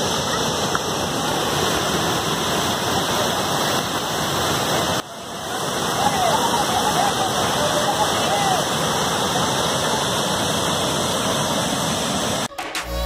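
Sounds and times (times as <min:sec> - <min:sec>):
water rushing over rocks: 0:00.0 - 0:12.5.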